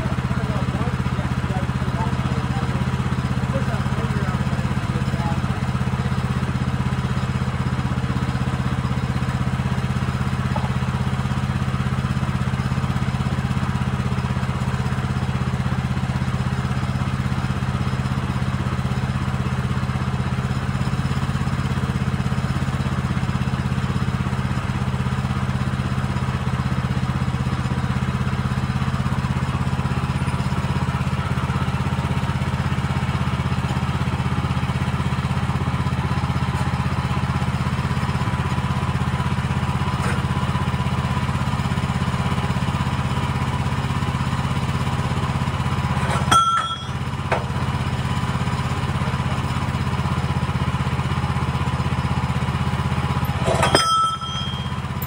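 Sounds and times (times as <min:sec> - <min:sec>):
sawmill gas engine idling: 0:00.0 - 0:55.0.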